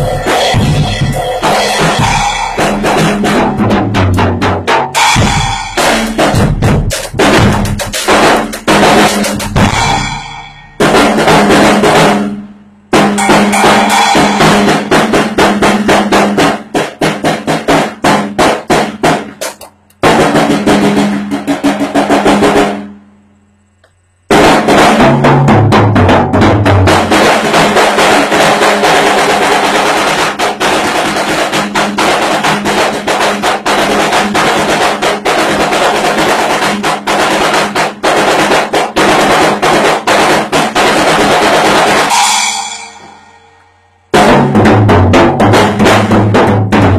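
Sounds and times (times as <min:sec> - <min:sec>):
acoustic drum kit groove: 0:00.0 - 0:22.9, 0:23.8 - 0:46.9.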